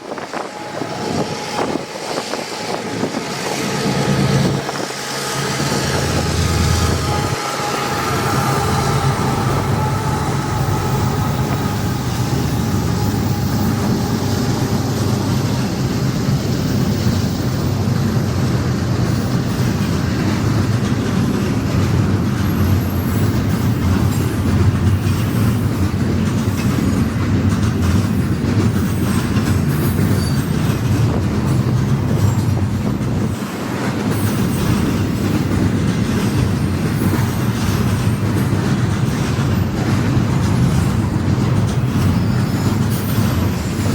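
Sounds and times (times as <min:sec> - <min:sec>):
freight train rumbling past: 0:00.0 - 0:43.9
train cars clattering: 0:00.0 - 0:43.9.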